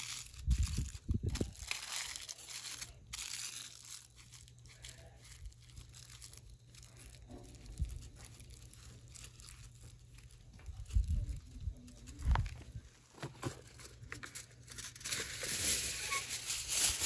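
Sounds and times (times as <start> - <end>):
paper crinkling and tearing: 0.0 - 17.0.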